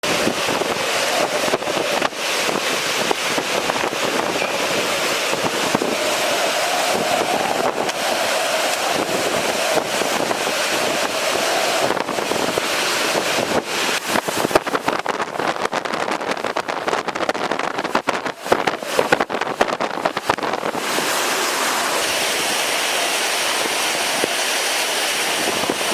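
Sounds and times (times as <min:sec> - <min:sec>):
strong wind blowing: 0:00.0 - 0:25.9
whistling wind gusts: 0:00.0 - 0:25.9
wind buffeting microphone: 0:00.0 - 0:25.9.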